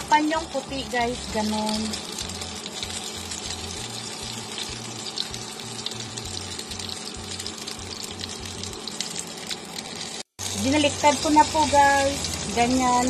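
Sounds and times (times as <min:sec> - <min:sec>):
food sizzling in frying pan: 0:00.0 - 0:13.0
oil crackles and spatters: 0:00.0 - 0:13.0.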